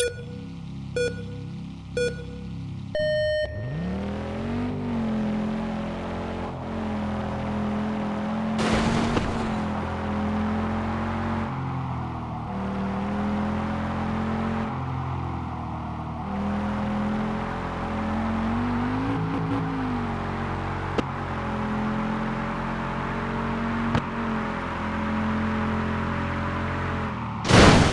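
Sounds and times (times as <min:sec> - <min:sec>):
cartoon car engine hum: 0:00.0 - 0:27.9.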